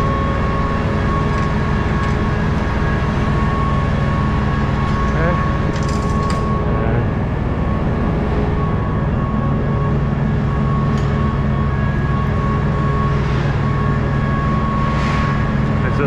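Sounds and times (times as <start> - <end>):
low machinery hum: 0.0 - 16.0
steady thin whine: 0.0 - 16.0.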